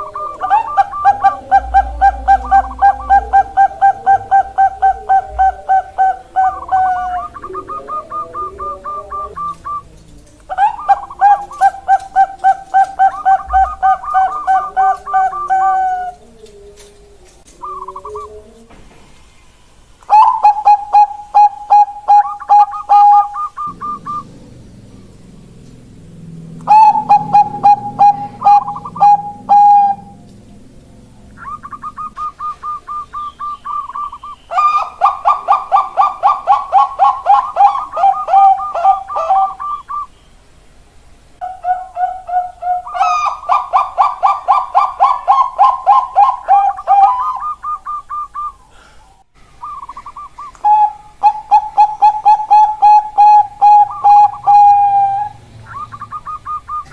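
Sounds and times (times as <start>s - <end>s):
dove cooing: 0.0s - 18.9s, 20.1s - 40.1s, 41.4s - 56.9s.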